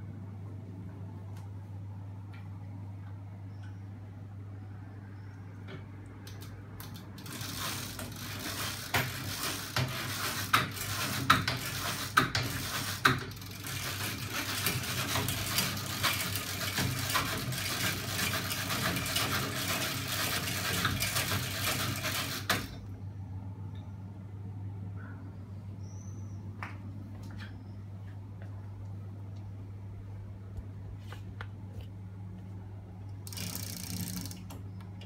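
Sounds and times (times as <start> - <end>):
low electric hum: 0.0 - 35.0.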